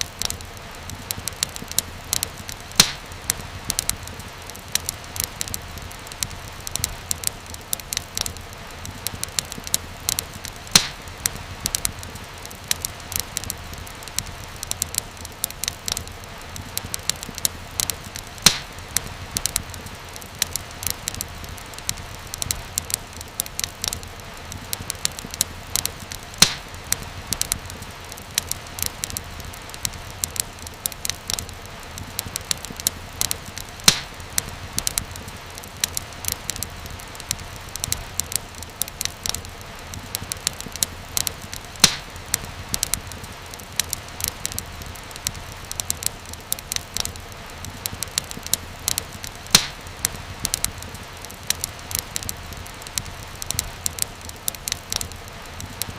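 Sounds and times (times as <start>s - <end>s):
fire crackling in fireplace: 0.0s - 55.9s.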